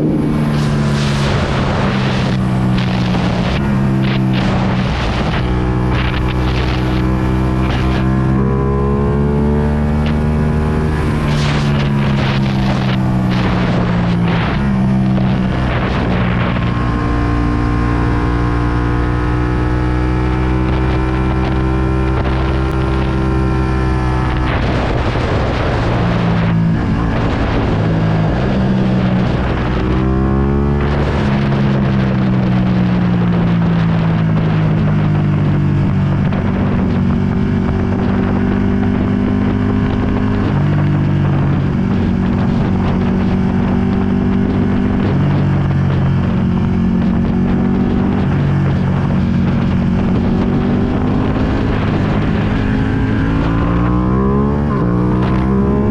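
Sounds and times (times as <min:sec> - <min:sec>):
motorcycle engine revving: 0:00.0 - 0:55.9
wind noise on microphone: 0:00.0 - 0:55.9.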